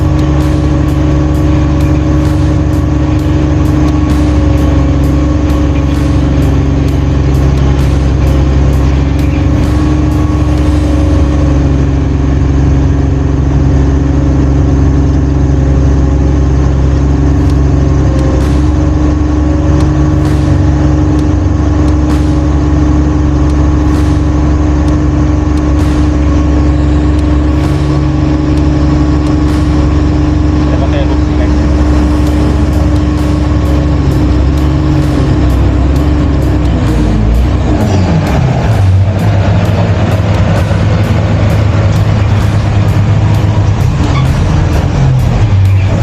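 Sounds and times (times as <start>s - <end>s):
diesel engine running steadily: 0.0s - 46.0s.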